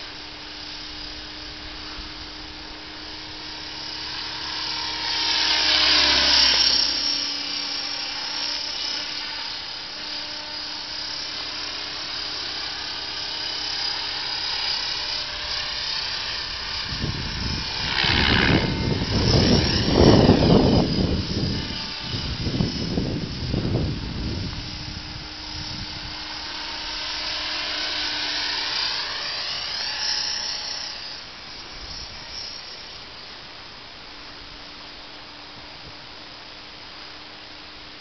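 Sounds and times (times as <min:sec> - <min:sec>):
rc helicopter rotor and motor whine: 0:00.0 - 0:38.0.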